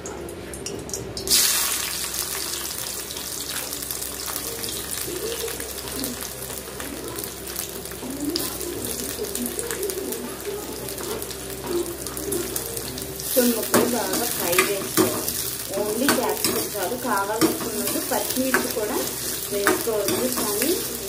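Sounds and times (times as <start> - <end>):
vegetables sizzling in hot oil: 1.1 - 21.0.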